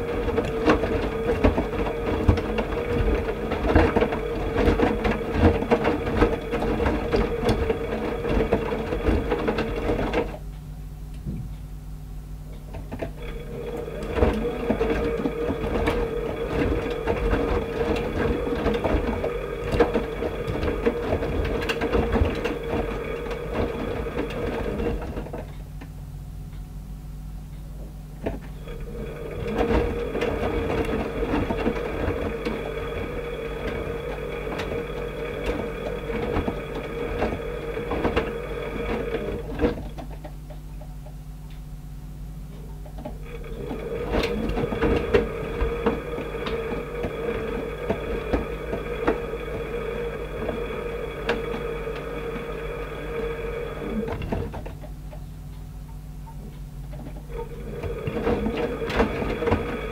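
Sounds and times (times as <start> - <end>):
washing machine drum tumbling: 0.0 - 10.5, 12.5 - 26.2, 28.2 - 41.1, 42.4 - 59.9.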